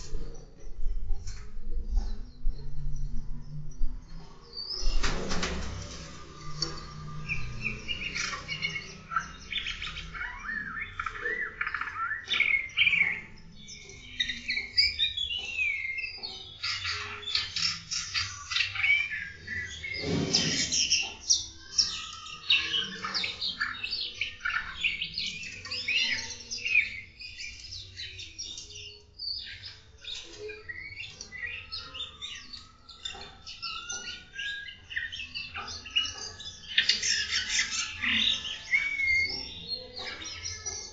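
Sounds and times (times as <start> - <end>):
many small birds chirping: 0.0 - 40.9.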